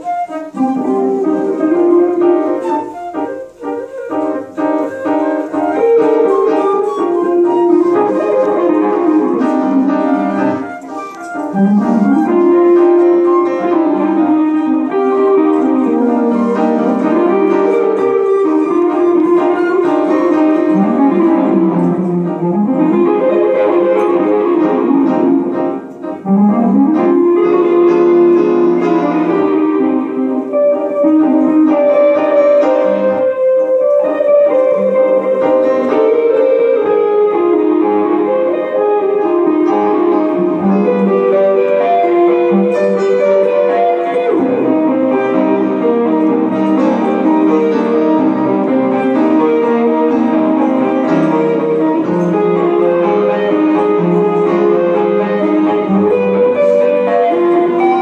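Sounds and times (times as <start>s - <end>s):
electric guitar: 0.0s - 58.0s
grand piano playing: 0.0s - 58.0s.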